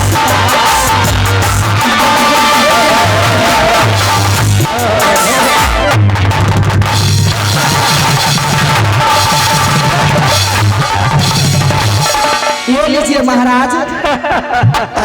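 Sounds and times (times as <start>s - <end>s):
drum kit music: 0.0s - 13.8s.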